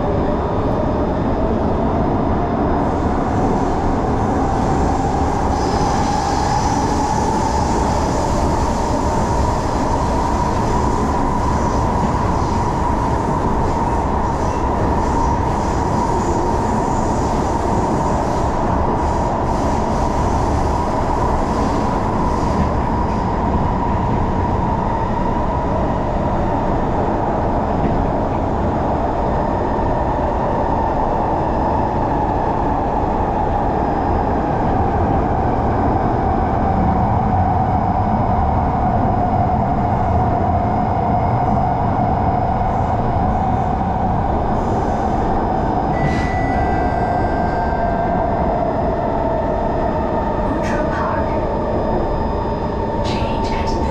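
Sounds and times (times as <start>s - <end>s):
train wheels rumbling on track: 0.0s - 53.9s.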